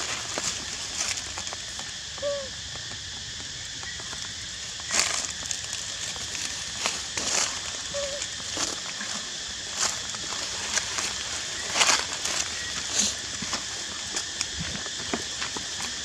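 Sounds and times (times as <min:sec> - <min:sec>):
footsteps on dry leaves: 0:00.0 - 0:02.0, 0:04.0 - 0:16.0
outdoor hiss: 0:00.0 - 0:16.0.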